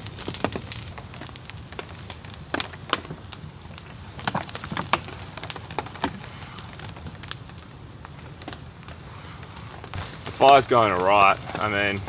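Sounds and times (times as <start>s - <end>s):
campfire crackling: 0.0s - 12.0s
rain falling: 0.0s - 12.0s.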